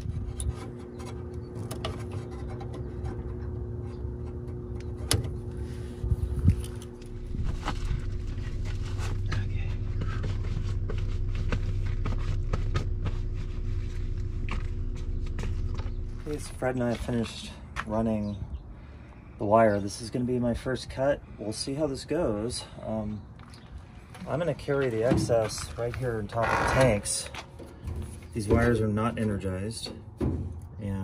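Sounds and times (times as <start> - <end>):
steady low rumble: 0.0 - 29.1
faint constant hum: 0.0 - 31.0.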